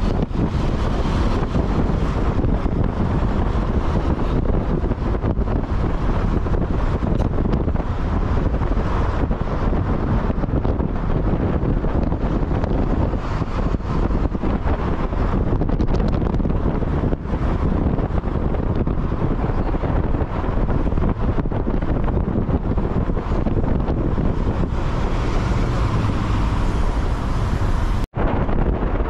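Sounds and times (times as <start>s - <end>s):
road noise: 0.0s - 29.0s
vehicle rumble: 0.0s - 29.0s
wind buffeting microphone: 0.0s - 29.0s.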